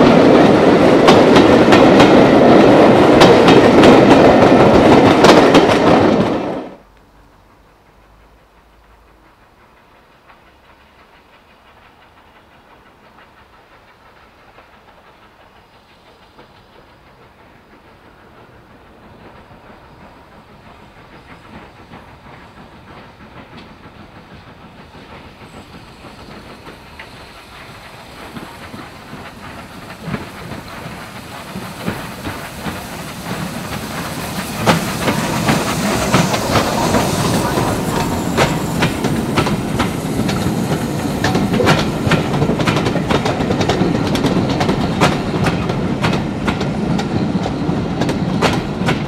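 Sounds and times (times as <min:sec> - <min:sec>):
wheels clattering on rails: 0:00.0 - 0:06.9, 0:07.6 - 0:49.0
steam locomotive exhaust: 0:06.8 - 0:49.0.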